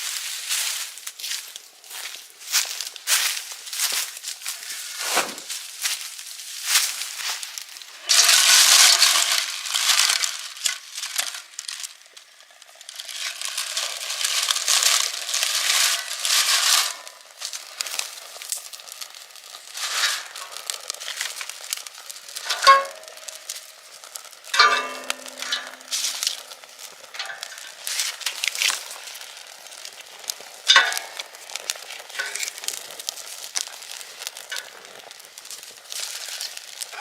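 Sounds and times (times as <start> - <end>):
food sizzling over a fire: 0.0 - 37.0.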